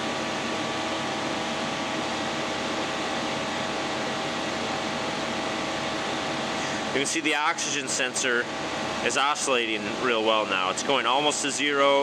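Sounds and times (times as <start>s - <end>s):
radiator fan running: 0.0s - 12.0s.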